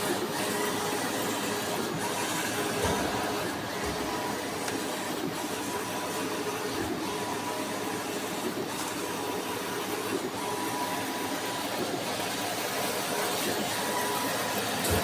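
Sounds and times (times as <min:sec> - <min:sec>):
printer mechanical whir: 0:00.0 - 0:15.0.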